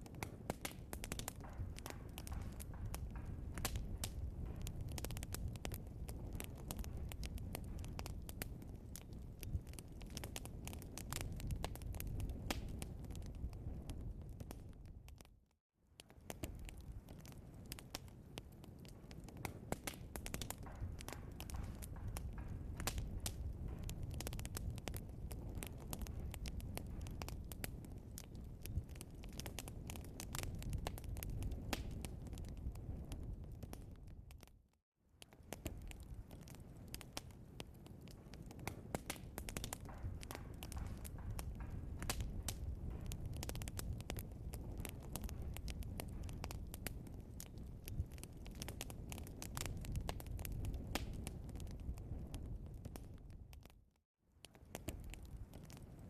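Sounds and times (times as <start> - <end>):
fire popping: 0.0 - 56.0
low rumble of flames: 0.0 - 56.0
wood fire crackling: 0.0 - 56.0.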